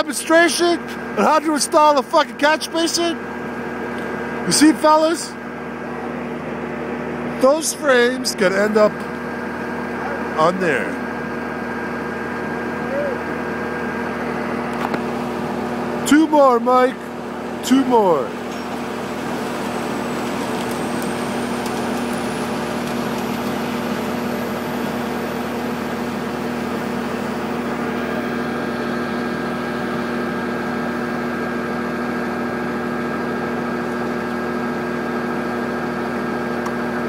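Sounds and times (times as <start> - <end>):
machine engine idling: 0.0 - 30.7.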